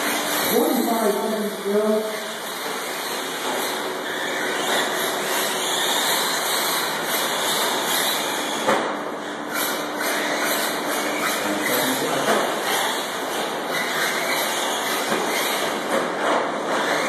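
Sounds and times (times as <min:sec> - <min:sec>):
rc trucks racing: 0:00.0 - 0:17.0.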